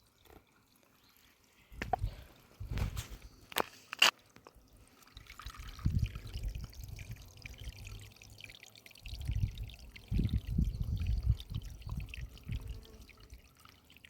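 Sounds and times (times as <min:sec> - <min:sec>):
water pouring and dripping: 0:00.0 - 0:14.0.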